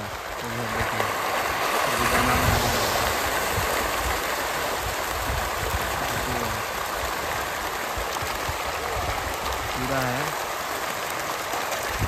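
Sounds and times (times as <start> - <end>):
feed pellets pattering on water: 0.0 - 12.0
fish splashing at water surface: 0.0 - 12.0.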